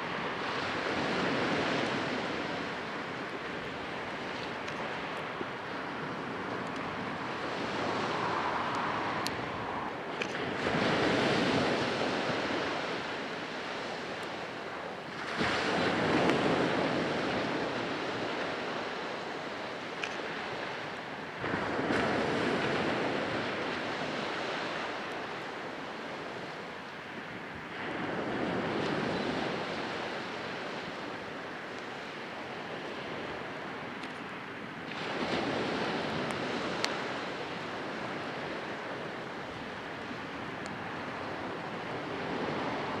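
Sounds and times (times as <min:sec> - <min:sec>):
ocean waves breaking on shore: 0:00.0 - 0:43.0.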